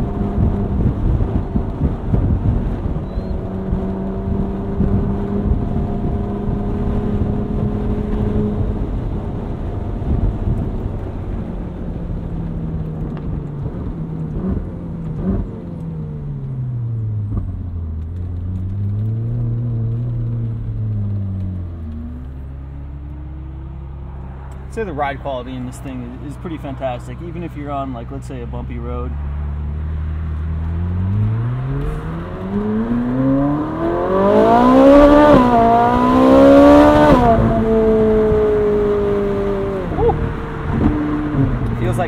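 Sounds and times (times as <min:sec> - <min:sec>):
sports car engine revving: 0:00.0 - 0:27.2, 0:27.9 - 0:42.0
wind and road noise: 0:00.0 - 0:42.0.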